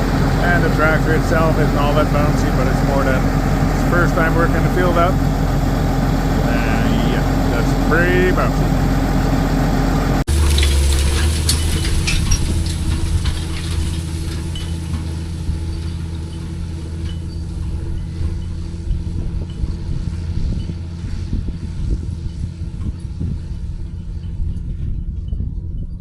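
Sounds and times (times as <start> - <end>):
machinery rattling and knocking: 0.0 - 24.2
tractor engine running: 0.0 - 25.2.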